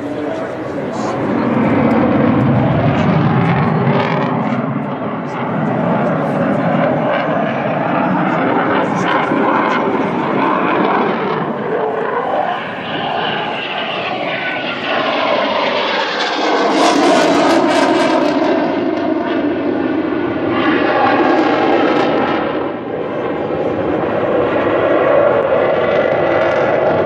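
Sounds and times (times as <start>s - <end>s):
jet fighter flying past: 0.0s - 27.0s.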